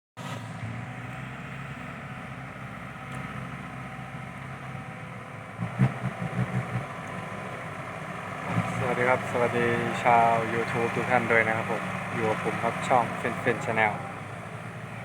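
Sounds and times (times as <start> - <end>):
heavy diesel engine running: 0.2 - 15.0.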